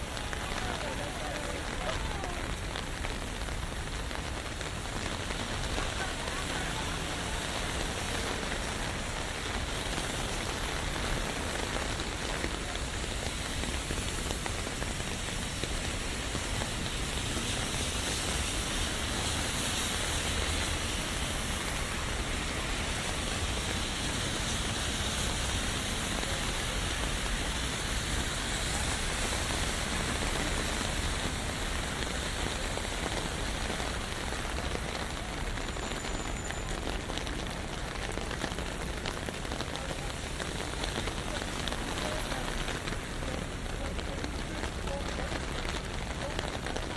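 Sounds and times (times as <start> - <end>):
low city rumble: 0.0 - 46.9
raindrops pattering on umbrella: 0.0 - 46.9
steady rain falling: 0.0 - 46.9.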